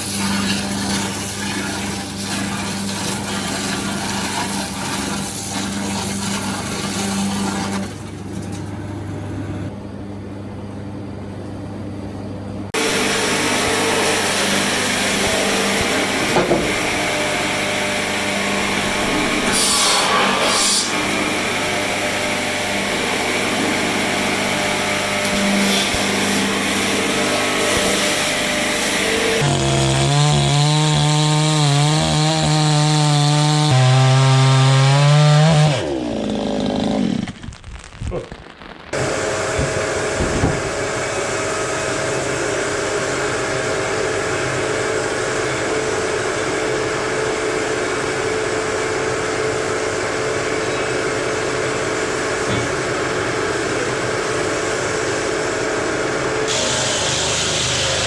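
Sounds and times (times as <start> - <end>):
sawmill machinery cutting wood: 0.0 - 8.9, 12.8 - 37.4, 39.0 - 58.0.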